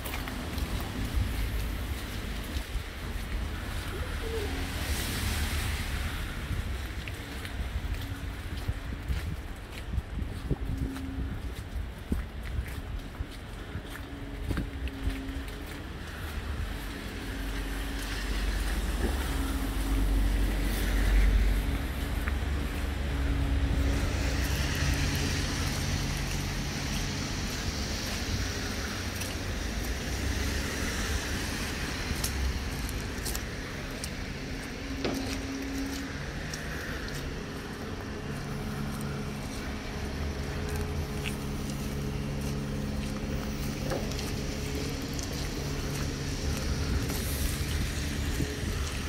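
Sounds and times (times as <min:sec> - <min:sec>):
motor vehicle engines rumbling: 0:00.0 - 0:49.0.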